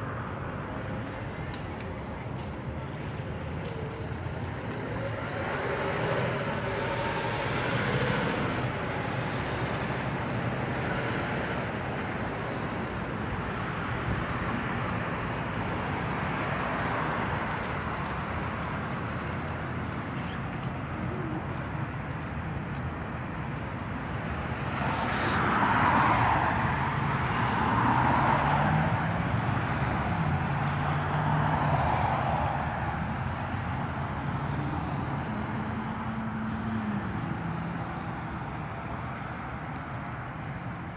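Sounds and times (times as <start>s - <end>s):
passing cars: 0.0s - 40.9s.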